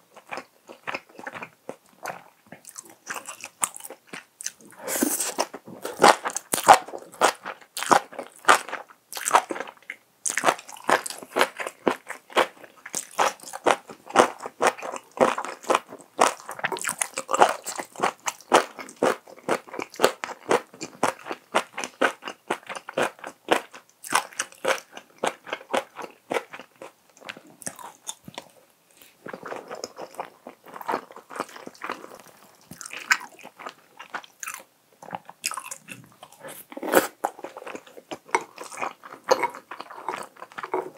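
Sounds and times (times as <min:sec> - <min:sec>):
person chewing crunchy food: 0:00.1 - 0:40.9.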